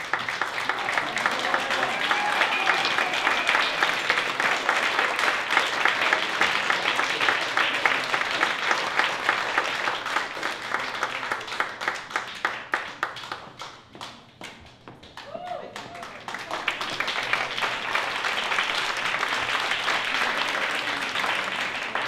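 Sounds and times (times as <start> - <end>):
audience applauding: 0.0 - 13.6, 15.2 - 22.0.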